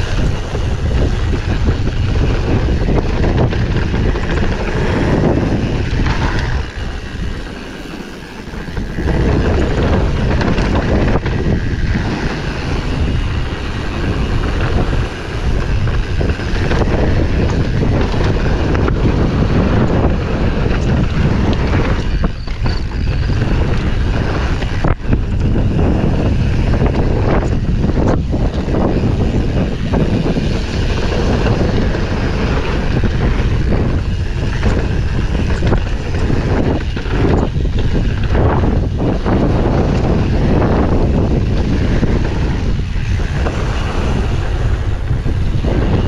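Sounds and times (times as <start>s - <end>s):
bike tyre and frame noise: 0.0s - 46.0s
wind rush on microphone: 0.0s - 46.0s.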